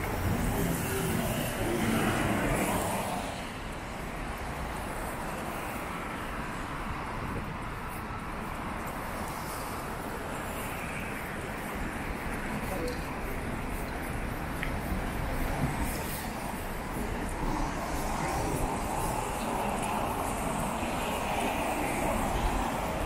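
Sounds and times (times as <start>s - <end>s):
traffic hiss on wet road: 0.0s - 23.0s
trolleybus passing: 0.0s - 23.0s.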